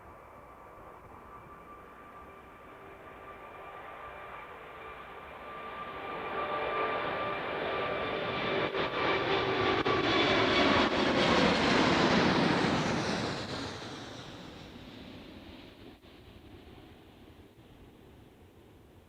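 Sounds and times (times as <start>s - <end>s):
jet engine whine: 0.0s - 19.0s
jet engines roaring: 0.1s - 18.0s.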